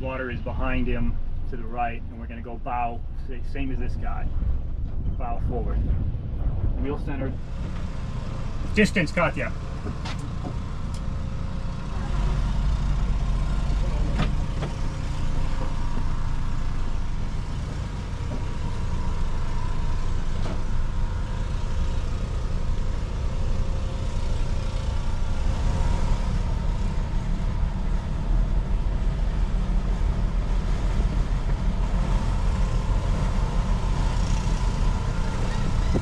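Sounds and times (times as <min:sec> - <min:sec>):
boat diesel engine running: 0:00.0 - 0:36.0.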